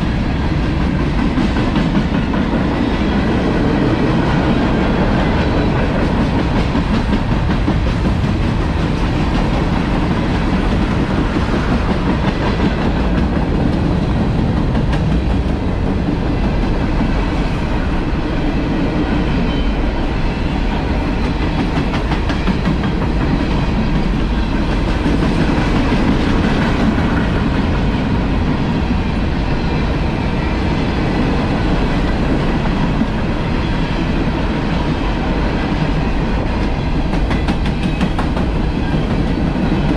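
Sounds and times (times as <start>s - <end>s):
wheels clickety-clack over rail joints: 0.0s - 39.9s.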